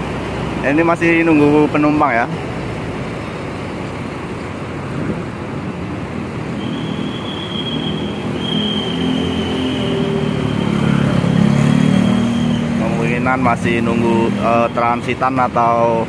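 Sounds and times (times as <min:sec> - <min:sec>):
road traffic passing: 0:00.0 - 0:16.0
vehicle approaching: 0:00.0 - 0:16.0.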